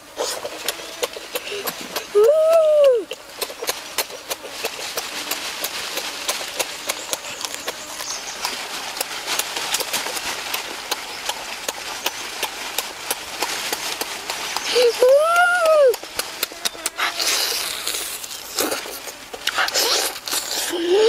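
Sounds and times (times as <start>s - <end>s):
crunchy carrot clicks: 0.1s - 20.8s
chewing and lip-smacking: 0.1s - 21.0s.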